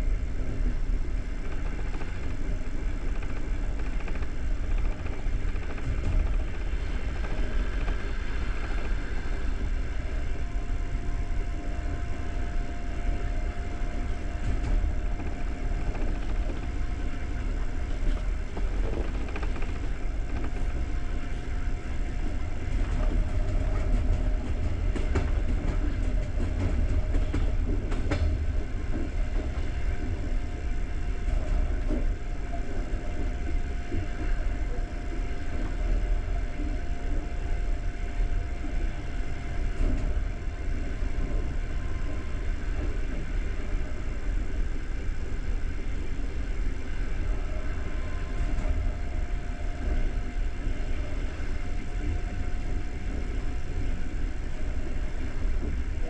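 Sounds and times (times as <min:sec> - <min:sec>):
faint steady whine: 0:00.0 - 0:56.0
train wheels rumbling on rails: 0:00.0 - 0:56.0.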